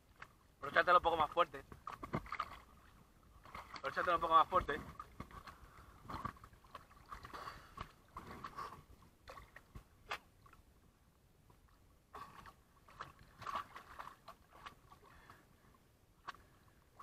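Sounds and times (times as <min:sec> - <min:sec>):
water splashing and lapping: 0:00.0 - 0:17.0.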